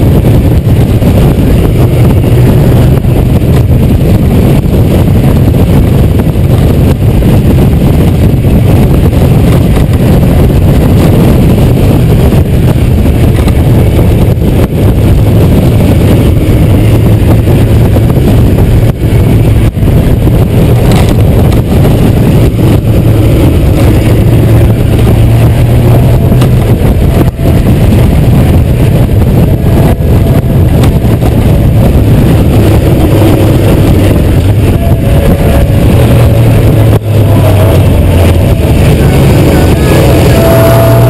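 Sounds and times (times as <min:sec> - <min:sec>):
motorcycle engine droning: 0:00.0 - 0:41.0
wind noise on microphone: 0:00.0 - 0:41.0.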